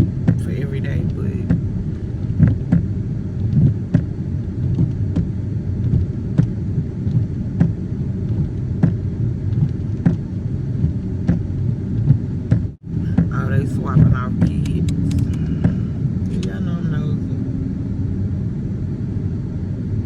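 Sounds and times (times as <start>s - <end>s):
car cabin rumble: 0.0s - 17.6s.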